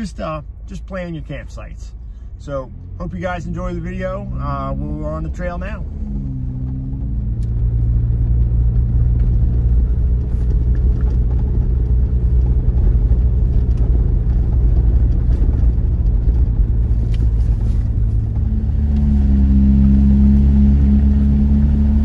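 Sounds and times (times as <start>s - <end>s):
engine and road drone: 0.0s - 22.0s.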